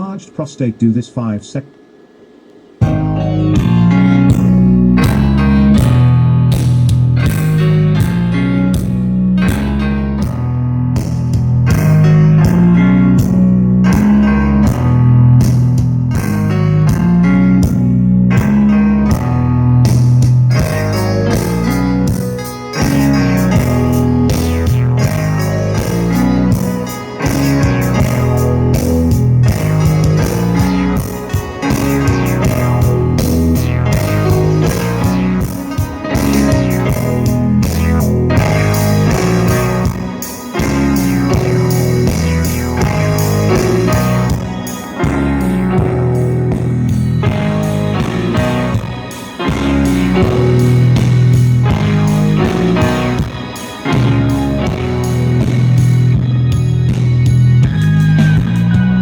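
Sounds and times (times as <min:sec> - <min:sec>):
rock music with heavy bass: 0:02.8 - 0:59.0.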